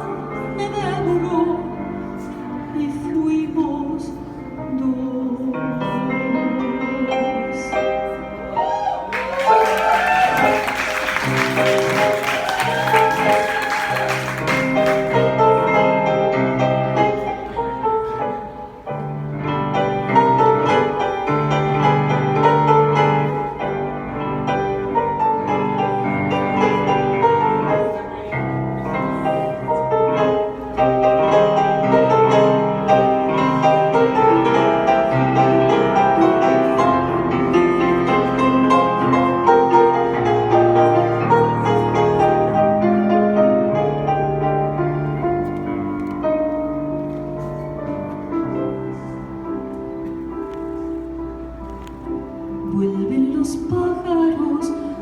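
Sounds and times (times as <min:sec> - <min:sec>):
slow piano ballad: 0:00.0 - 0:55.0.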